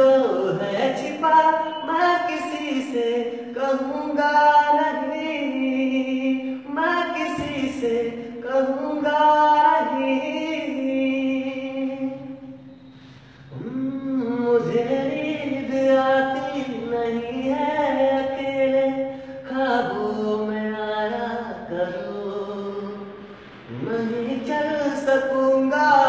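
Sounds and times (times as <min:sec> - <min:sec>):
man singing unaccompanied: 0:00.0 - 0:12.8, 0:13.4 - 0:26.0.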